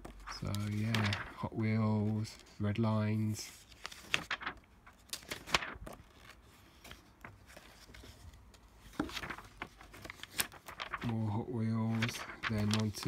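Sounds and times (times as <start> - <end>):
magazine pages rustling: 0.0 - 13.0.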